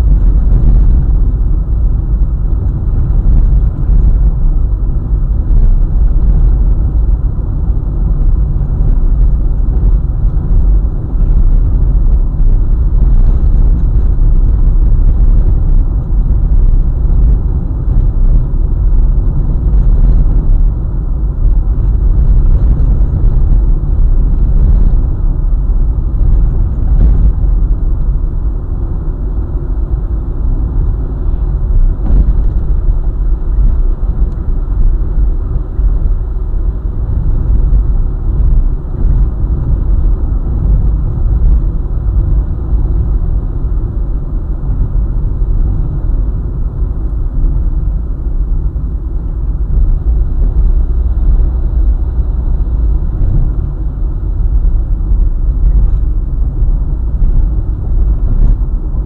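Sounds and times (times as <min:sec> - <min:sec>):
vehicle road rumble: 0:00.0 - 0:59.0.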